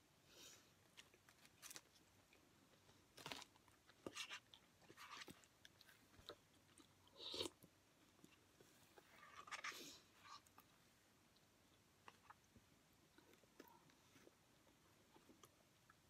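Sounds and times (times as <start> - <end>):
chewing with soft crunches: 0.9 - 16.0.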